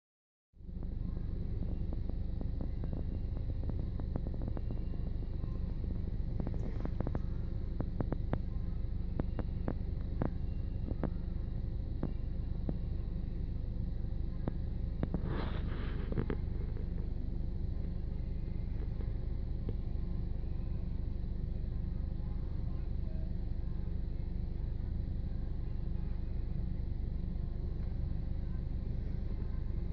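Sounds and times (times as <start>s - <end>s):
car cabin low rumble: 0.6s - 29.9s.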